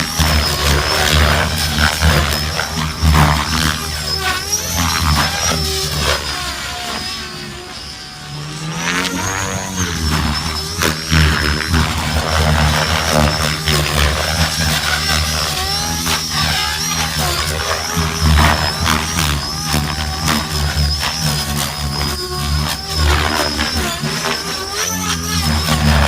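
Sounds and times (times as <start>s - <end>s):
high motor whine: 0.0s - 26.0s
rotor blades pulsing: 0.0s - 26.0s.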